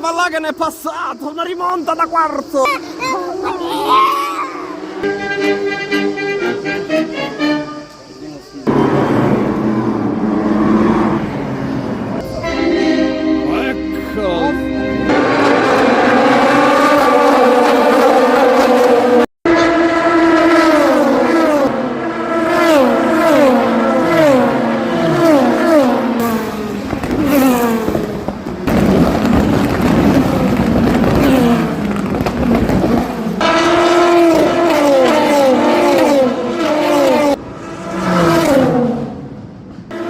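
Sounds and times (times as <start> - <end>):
race car engines passing: 2.6 - 40.0.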